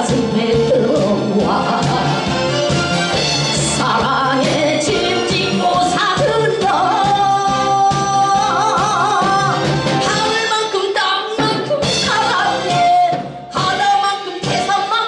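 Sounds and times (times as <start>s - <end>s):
woman singing into microphone: 0.0s - 2.3s, 3.6s - 15.0s
backing track music: 0.0s - 15.0s.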